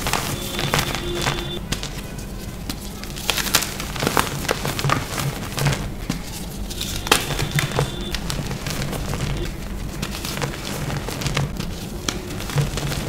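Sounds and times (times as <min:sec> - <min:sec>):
chalk crunching and crackling: 0:00.0 - 0:13.0.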